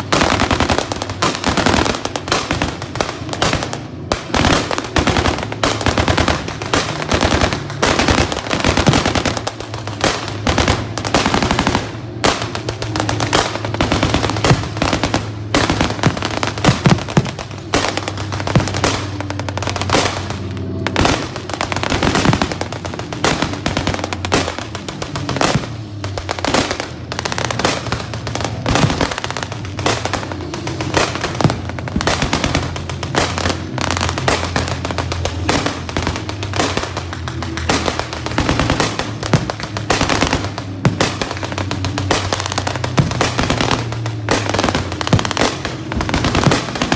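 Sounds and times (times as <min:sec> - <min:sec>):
rapid gunfire: 0:00.0 - 0:46.9.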